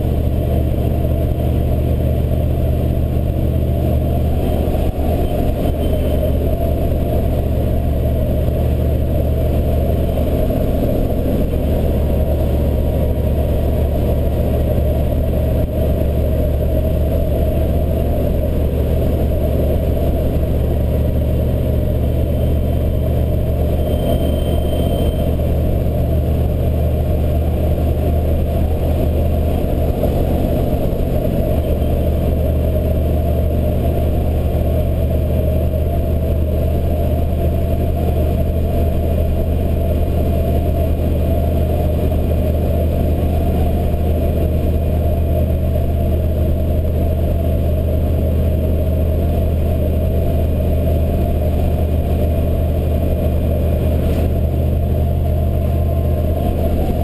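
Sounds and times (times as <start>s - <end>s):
diesel pickup engine cruising: 0.0s - 57.0s.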